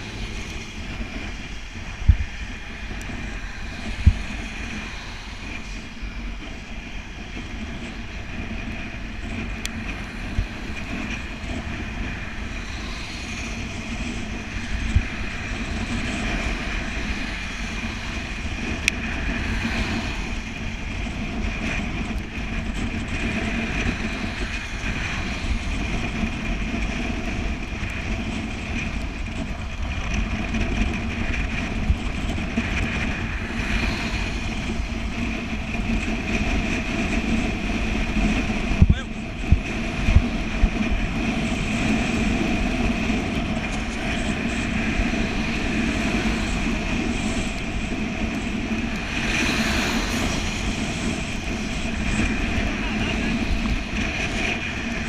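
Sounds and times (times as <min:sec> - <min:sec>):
bicycle tyres on wet road: 0:00.0 - 0:55.0
wind rushing over microphone: 0:00.0 - 0:55.0.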